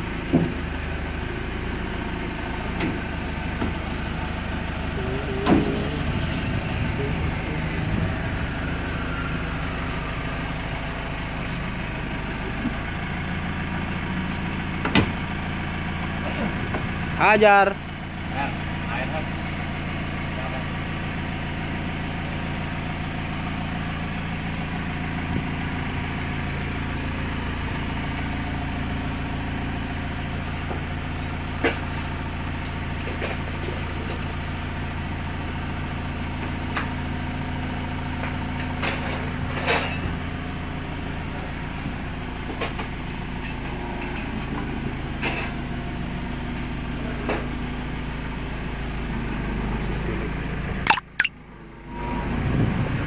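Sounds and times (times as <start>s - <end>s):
street sweeper machine hum: 0.0s - 50.8s.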